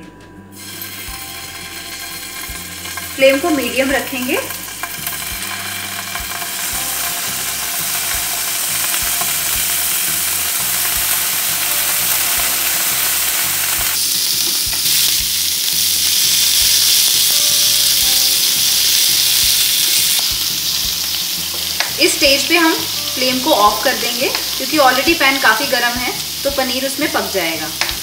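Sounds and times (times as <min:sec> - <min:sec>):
cheese sizzling in a pan: 0:00.6 - 0:28.0.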